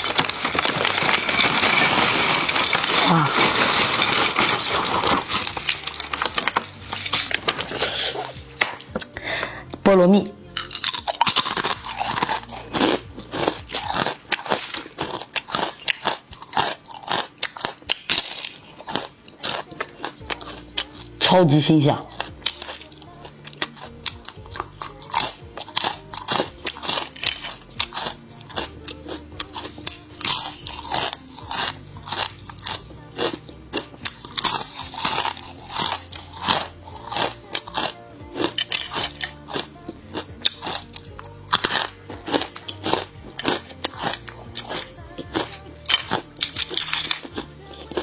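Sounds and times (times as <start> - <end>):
crunching crispy chips: 0.0 - 9.4, 10.5 - 48.0
faint background music: 0.0 - 48.0.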